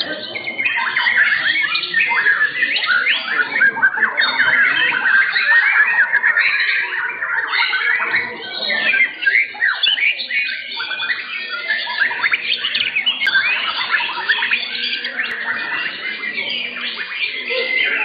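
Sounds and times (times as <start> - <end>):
songbirds whistling and trilling: 0.0 - 18.0.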